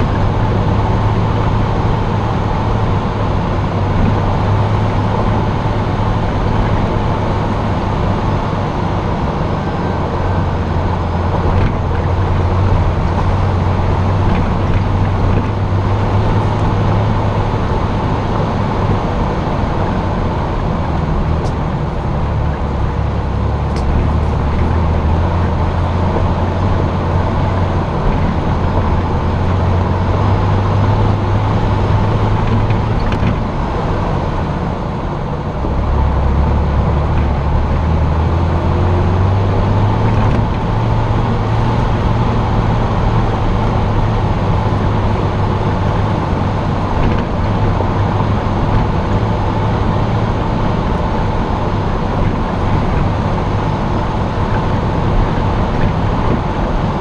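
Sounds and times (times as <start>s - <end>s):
road noise: 0.0s - 57.0s
vehicle engine droning: 0.0s - 57.0s.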